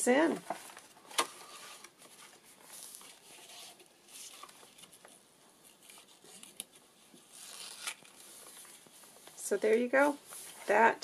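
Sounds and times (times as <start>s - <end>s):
paper rustling: 0.4s - 9.4s.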